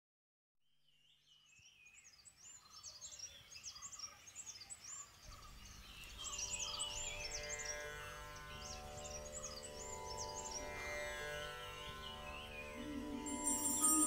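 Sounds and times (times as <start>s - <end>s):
birds chirping and singing: 1.0s - 14.0s.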